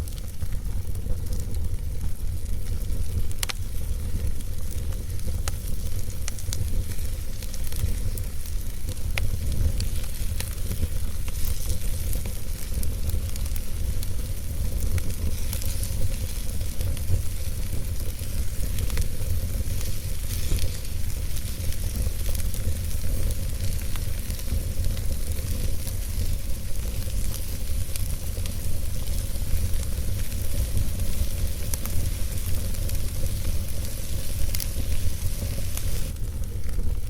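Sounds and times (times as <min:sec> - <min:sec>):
burning wood crackling and popping: 0:00.0 - 0:37.0
campfire hissing: 0:00.0 - 0:37.0
constant low rumble: 0:00.0 - 0:37.0.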